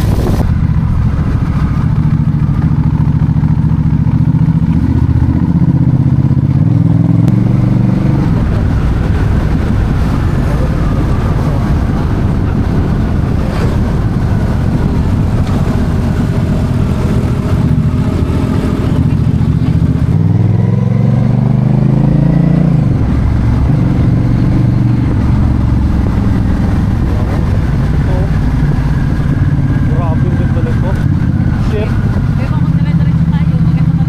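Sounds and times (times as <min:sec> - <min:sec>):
road noise: 0:00.0 - 0:34.0
vehicle engine rumble: 0:00.0 - 0:34.0.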